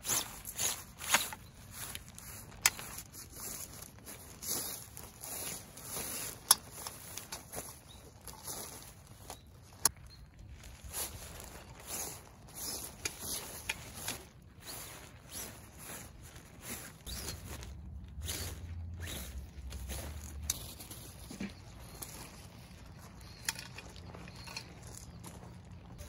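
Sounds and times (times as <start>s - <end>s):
footsteps: 0.0s - 26.0s
rustling and handling noises: 0.0s - 26.0s.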